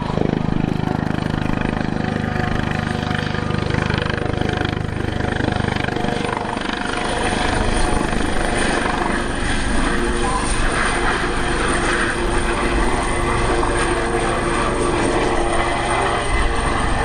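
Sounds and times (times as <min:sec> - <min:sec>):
helicopter rotor beating: 0:00.0 - 0:17.0
turbine engine rush and whine: 0:00.0 - 0:17.0.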